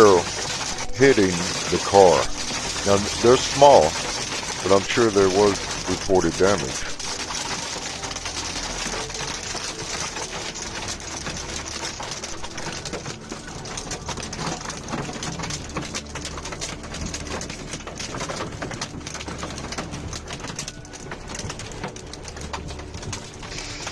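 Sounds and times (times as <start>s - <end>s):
hail clattering on a car: 0.0s - 23.9s.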